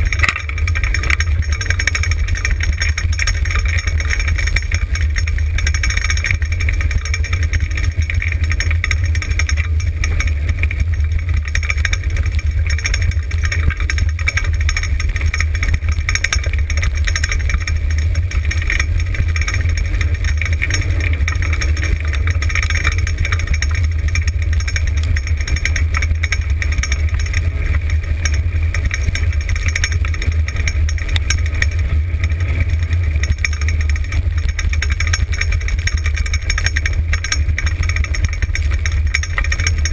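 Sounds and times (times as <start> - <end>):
rig rattling over gravel: 0.0 - 39.9
wind rumble on microphone: 0.0 - 39.9.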